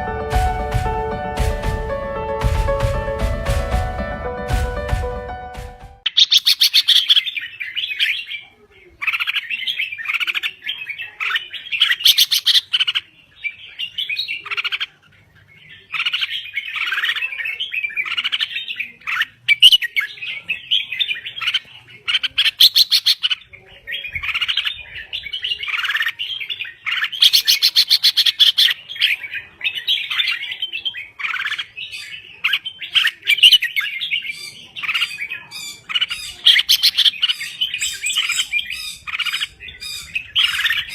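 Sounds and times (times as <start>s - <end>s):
bird chirping and warbling: 6.0s - 40.9s.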